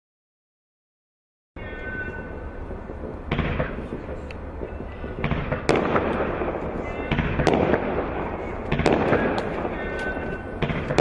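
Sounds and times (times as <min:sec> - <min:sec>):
firework crackle: 0:01.6 - 0:11.0
firework stars bursting: 0:01.6 - 0:11.0.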